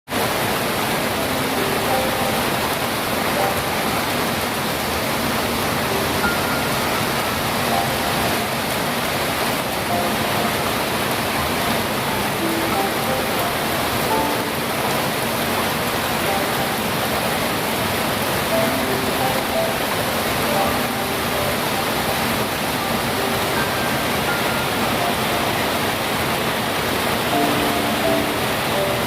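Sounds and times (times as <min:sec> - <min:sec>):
steady rainfall hiss: 0:00.1 - 0:29.0.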